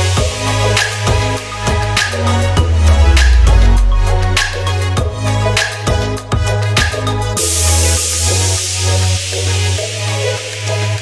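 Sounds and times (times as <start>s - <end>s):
music with deep bass: 0.0s - 11.0s.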